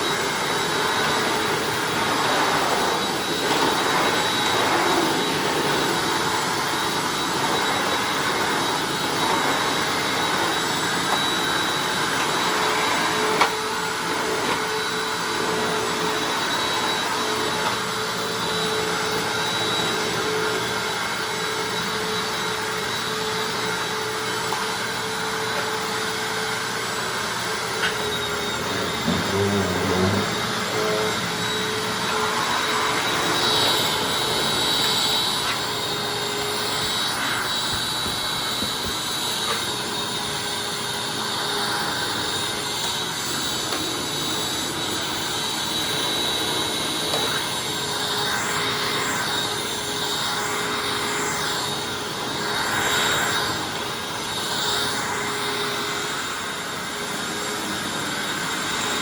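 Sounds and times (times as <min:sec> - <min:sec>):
upright vacuum cleaner running: 0:00.0 - 0:59.0.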